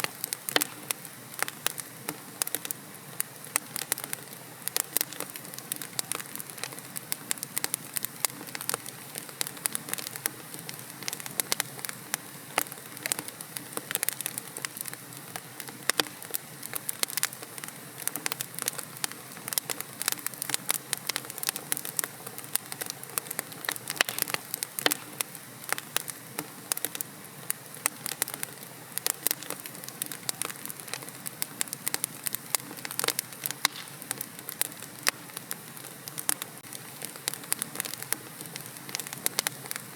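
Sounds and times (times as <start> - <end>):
burning logs hissing: 0.0 - 39.9
wood fire crackling and popping: 0.0 - 39.9.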